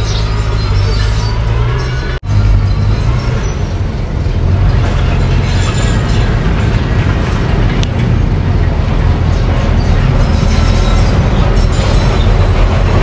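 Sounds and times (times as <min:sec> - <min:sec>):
diesel engines rumbling: 0:00.0 - 0:13.0.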